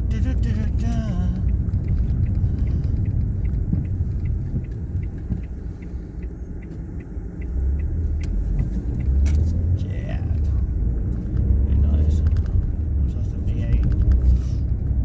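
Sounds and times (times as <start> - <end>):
light regular ticking: 0.0 - 15.0
road and engine rumble in car: 0.0 - 15.0.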